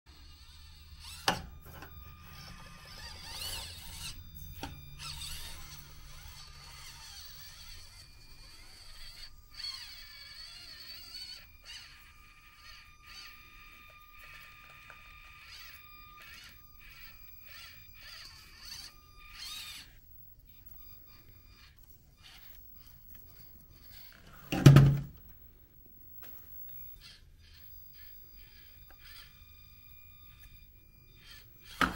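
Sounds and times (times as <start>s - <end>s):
small electric motor whining: 0.1s - 31.9s.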